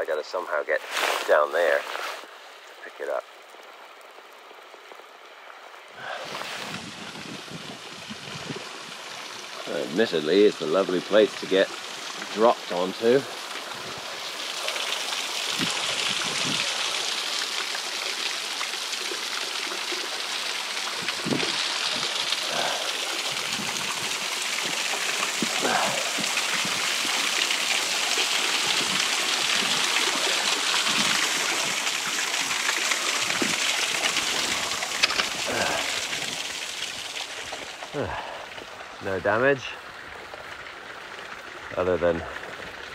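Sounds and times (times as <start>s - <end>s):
waterfall splashing on rocks: 6.0s - 42.9s.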